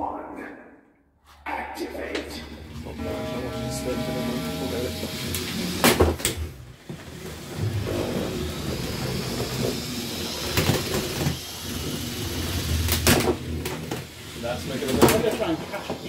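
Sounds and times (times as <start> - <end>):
electric motors whirring: 2.8 - 16.0.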